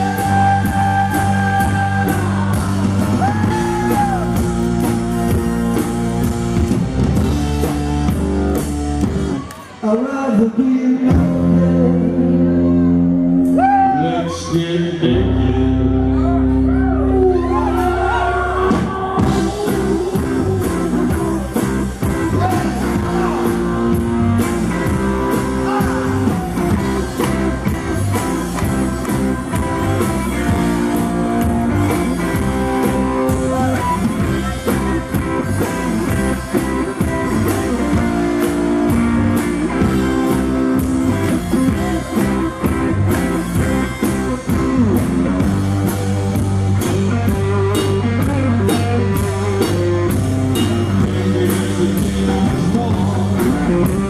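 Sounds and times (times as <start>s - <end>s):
drum kit beat: 0.0s - 9.5s, 18.6s - 54.0s
electric guitar: 0.0s - 54.0s.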